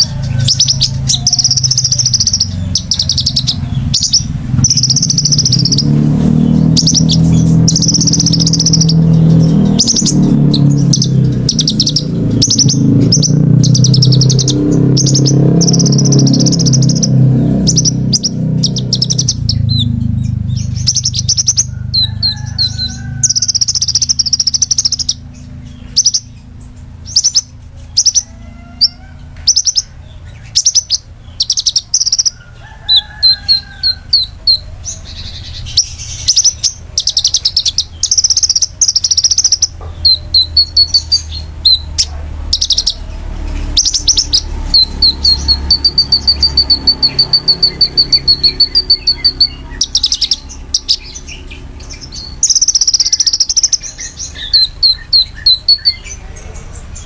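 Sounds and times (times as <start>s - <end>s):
bird singing high-pitched calls: 0.0s - 57.0s.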